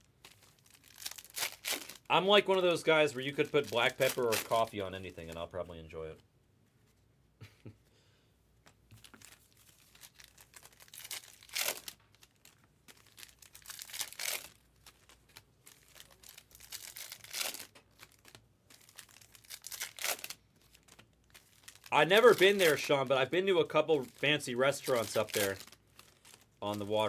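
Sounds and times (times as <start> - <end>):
wrappers tearing and crinkling: 0.0 - 5.5, 8.9 - 27.0.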